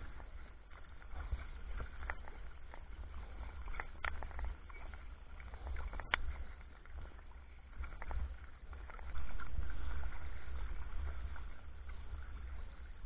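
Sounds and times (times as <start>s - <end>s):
paddle splashes and drips: 0.0s - 13.0s
wind rumble on microphone: 0.0s - 13.0s.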